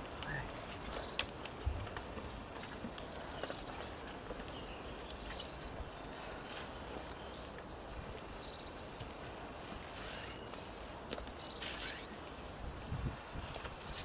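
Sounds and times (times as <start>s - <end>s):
songbird singing: 0.0s - 1.9s, 2.7s - 9.1s, 10.0s - 12.6s, 13.4s - 14.0s.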